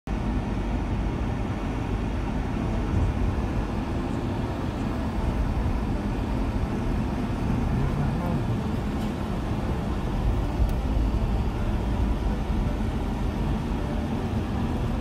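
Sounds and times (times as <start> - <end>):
car engine and tyre noise: 0.1 - 15.0.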